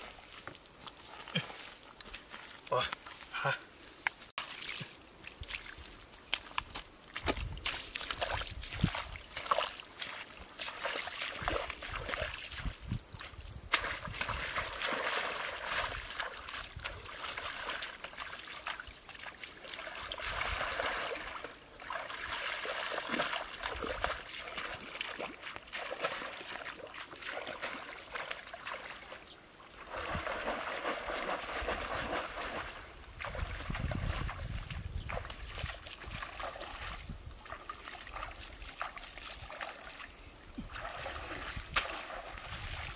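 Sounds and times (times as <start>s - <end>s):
water splashing from wading: 4.4s - 12.8s, 13.7s - 42.9s.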